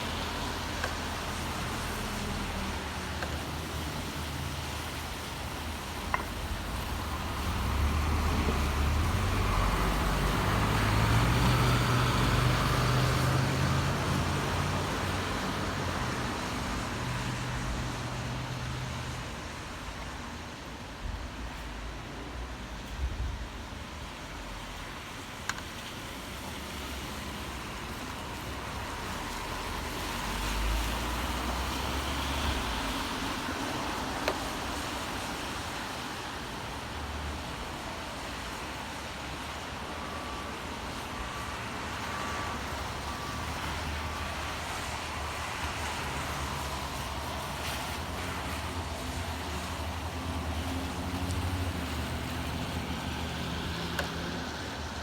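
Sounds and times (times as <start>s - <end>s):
steady rain: 0.0s - 55.0s
traffic hiss: 0.0s - 55.0s.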